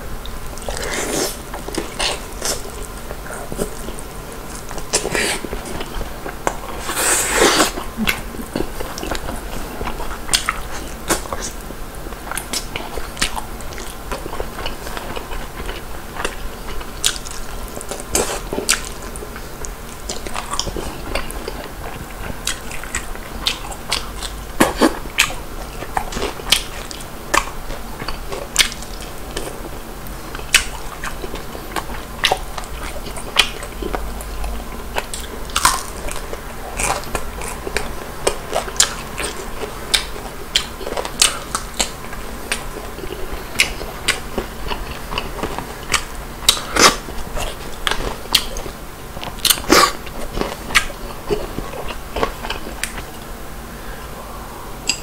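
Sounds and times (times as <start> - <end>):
man crunching fried chicken: 0.3 - 53.2.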